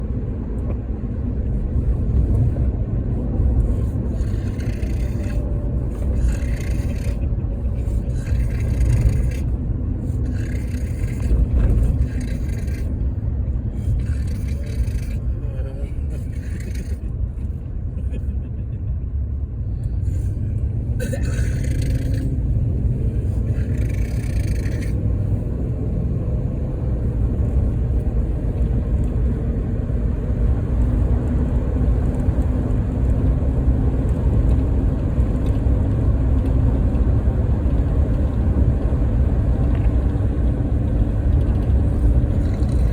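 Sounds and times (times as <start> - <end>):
van driving rumble: 0.0 - 42.9.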